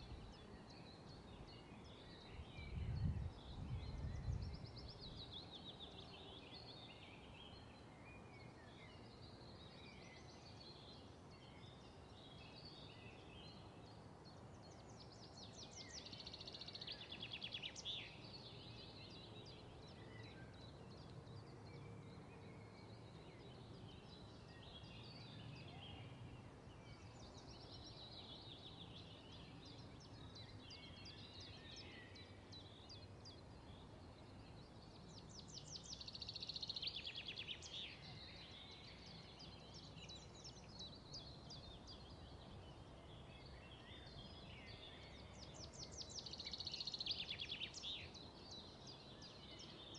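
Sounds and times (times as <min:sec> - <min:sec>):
small birds chirping and trilling: 0:00.0 - 0:49.9.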